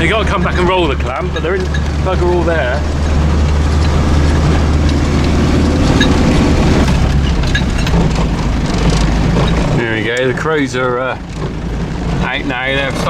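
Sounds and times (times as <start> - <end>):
small rattles: 0.0 - 13.0
vehicle engine running: 0.0 - 13.0.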